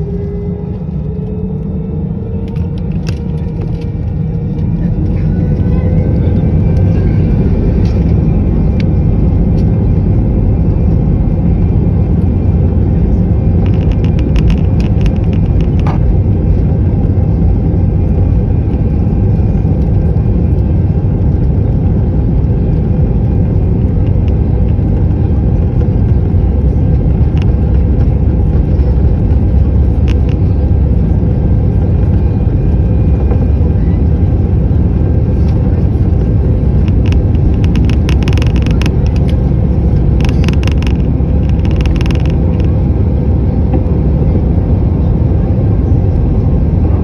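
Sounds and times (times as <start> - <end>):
aircraft rolling down runway: 0.0 - 47.0
jet engines rumbling: 0.0 - 47.0.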